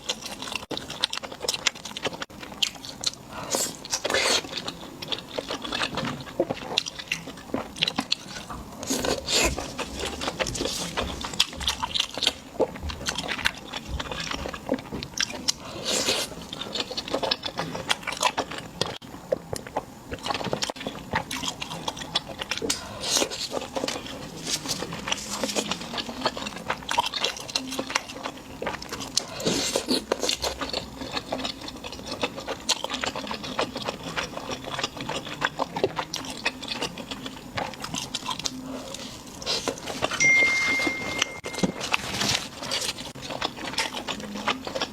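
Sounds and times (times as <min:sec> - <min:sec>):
crunchy bites and chewing: 0:00.0 - 0:40.2, 0:41.7 - 0:44.9.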